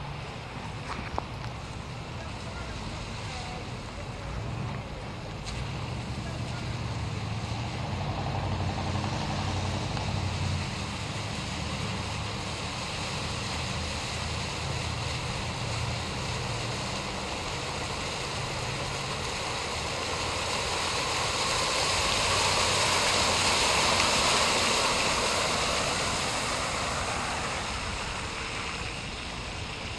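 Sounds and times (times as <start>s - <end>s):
car engine humming: 0.0s - 29.9s
water splashing from tyres: 0.0s - 29.9s.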